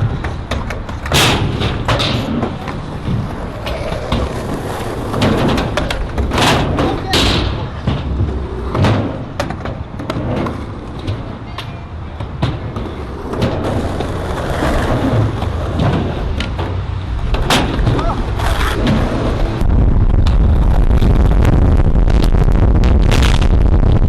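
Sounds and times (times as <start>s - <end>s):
skateboard clacks and knocks: 0.0s - 20.4s
skateboard wheels rolling on concrete: 0.0s - 24.0s.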